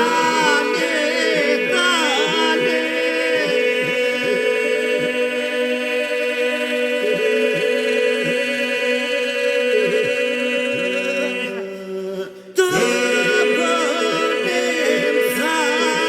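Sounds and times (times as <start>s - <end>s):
group of voices holding a drone: 0.0s - 16.0s.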